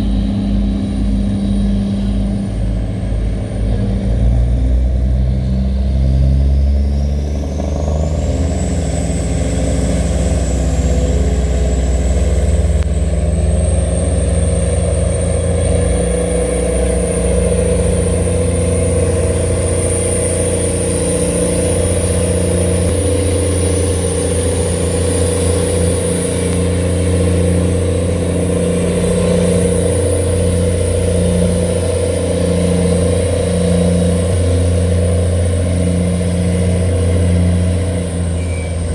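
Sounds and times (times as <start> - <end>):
high whine: 0.0 - 38.9
tugboat engine running: 0.0 - 38.9.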